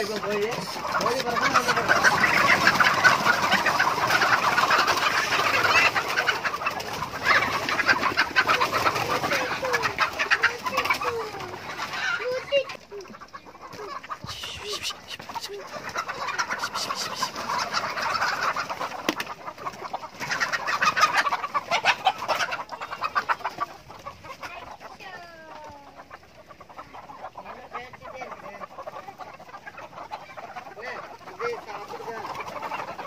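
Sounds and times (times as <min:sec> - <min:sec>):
chickens clucking and calling: 0:00.0 - 0:33.0.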